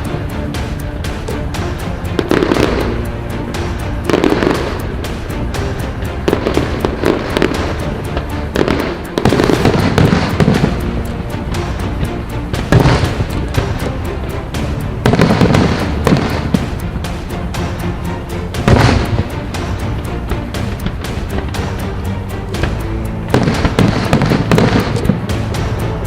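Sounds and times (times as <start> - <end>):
firework crackle: 0.0 - 26.0
music playing: 0.0 - 26.0.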